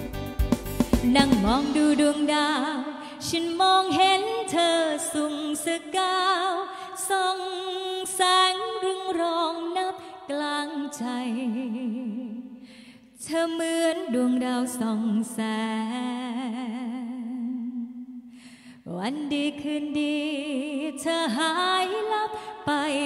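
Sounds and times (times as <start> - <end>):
woman singing with vibrato: 1.0 - 12.6, 13.2 - 23.0.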